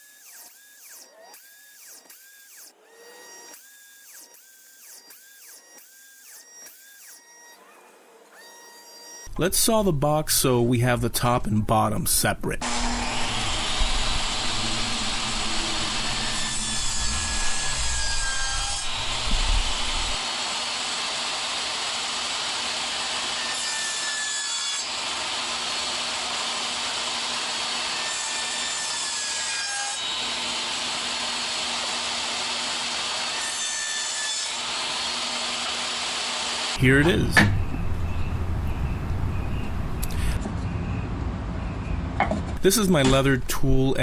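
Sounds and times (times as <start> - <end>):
table saw cutting wood: 0.0 - 9.3, 12.6 - 40.2.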